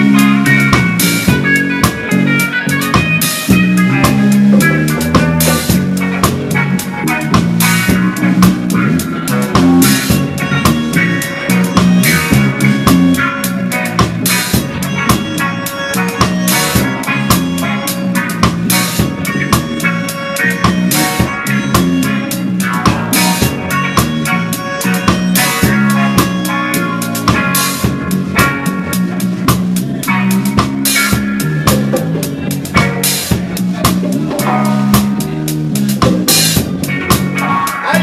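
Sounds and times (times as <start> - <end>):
drum kit with snare and cymbals: 0.0 - 38.0
reggae band playing: 0.0 - 38.0.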